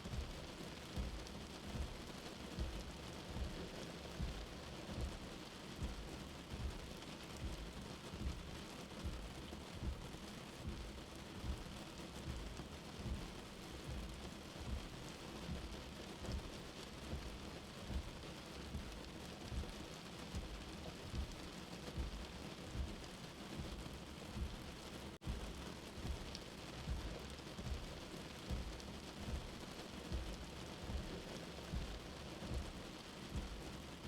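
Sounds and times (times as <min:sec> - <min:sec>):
steady rain falling: 0:00.0 - 0:34.0
low heartbeat thumping: 0:00.1 - 0:34.0.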